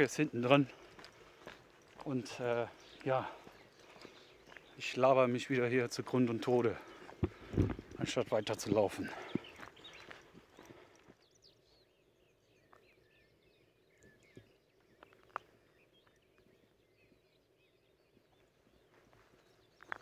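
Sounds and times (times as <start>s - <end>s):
faint bird chirps: 0.0s - 5.6s, 9.0s - 20.0s.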